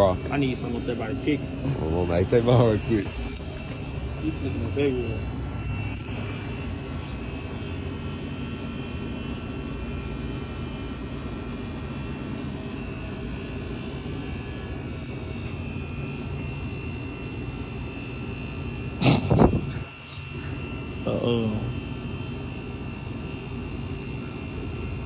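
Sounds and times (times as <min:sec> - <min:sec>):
faint high whine: 0:00.0 - 0:25.0
refrigerated coolers humming: 0:00.0 - 0:25.0.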